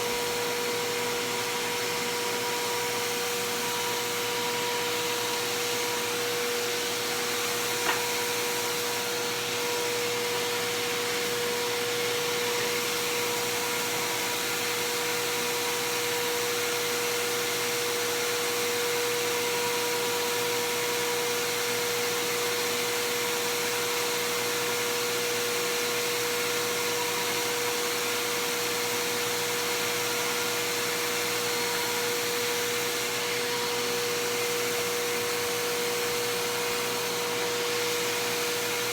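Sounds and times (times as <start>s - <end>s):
upright vacuum cleaner whining: 0.0s - 38.9s.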